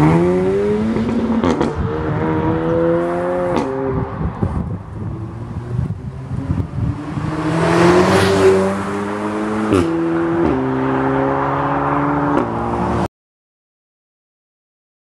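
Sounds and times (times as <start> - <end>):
car engine accelerating hard: 0.0 - 13.1.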